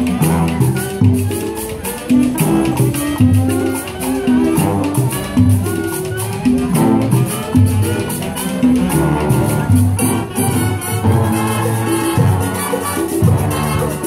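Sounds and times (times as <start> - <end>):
marching band playing salsa tune: 0.0 - 14.0.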